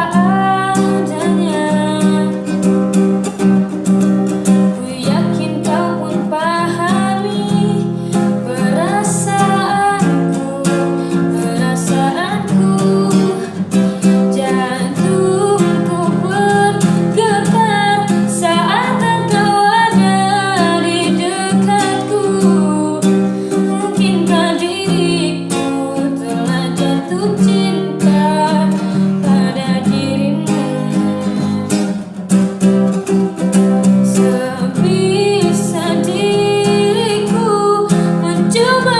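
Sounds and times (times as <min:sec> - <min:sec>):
person singing: 0:00.0 - 0:02.9, 0:04.6 - 0:32.0, 0:33.8 - 0:38.9
acoustic guitar strumming: 0:00.0 - 0:38.9.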